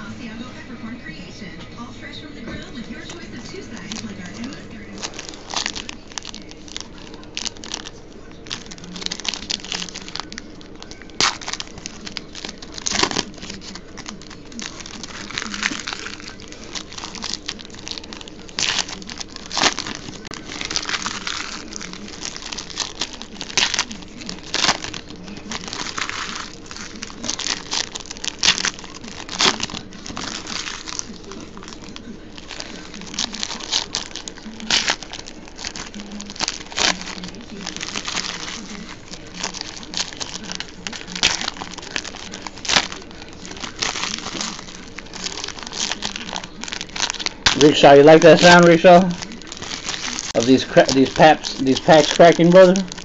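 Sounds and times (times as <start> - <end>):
foil wrappers crinkling: 2.0 - 53.0.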